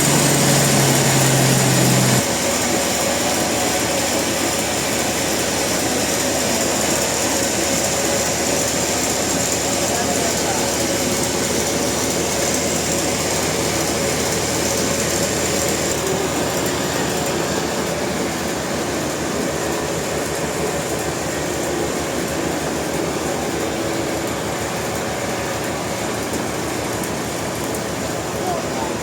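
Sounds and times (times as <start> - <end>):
high machine whine: 0.0 - 29.0
sawmill machinery running: 0.0 - 29.0.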